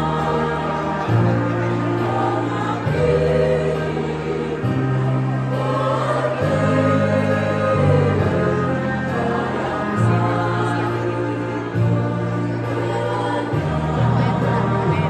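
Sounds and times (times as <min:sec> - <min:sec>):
held bass notes: 0:00.0 - 0:15.0
women's choir singing: 0:00.0 - 0:15.0.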